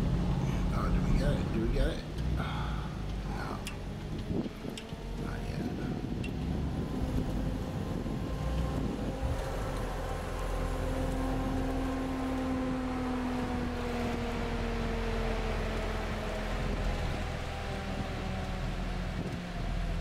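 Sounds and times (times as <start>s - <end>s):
car engine and fan drone: 0.0s - 20.0s
low rumble: 0.0s - 20.0s.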